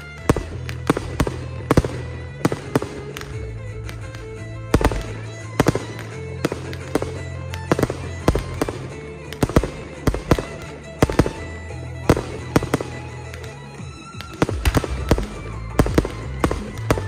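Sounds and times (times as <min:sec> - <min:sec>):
firework shells bursting: 0:00.0 - 0:17.0
music playing: 0:00.0 - 0:17.0.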